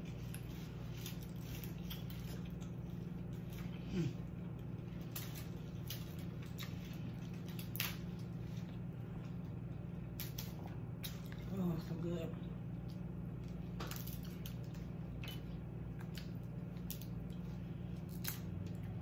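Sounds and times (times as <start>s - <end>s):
wet chewing clicks and smacks: 0.0s - 11.5s, 12.6s - 19.0s
steady low hum: 0.0s - 19.0s.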